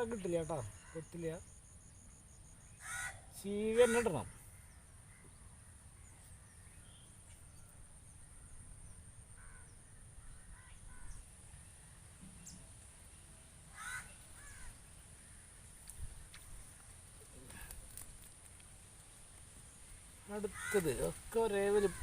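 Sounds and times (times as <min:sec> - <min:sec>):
faint bird calls: 0:00.0 - 0:18.2, 0:19.6 - 0:22.0.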